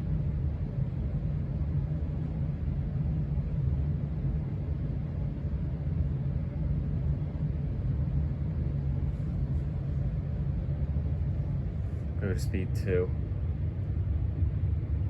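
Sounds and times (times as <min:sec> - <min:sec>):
hvac system rumbling: 0:00.0 - 0:15.0.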